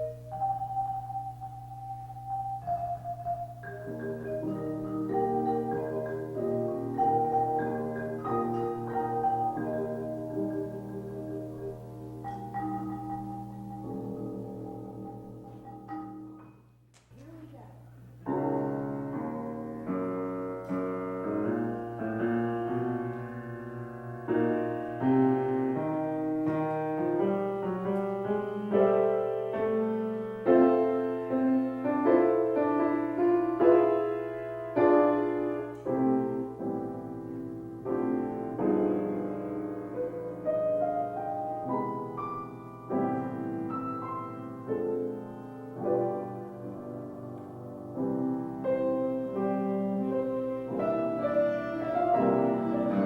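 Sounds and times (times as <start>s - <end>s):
piano playing chords: 0.0s - 16.8s, 18.2s - 53.0s.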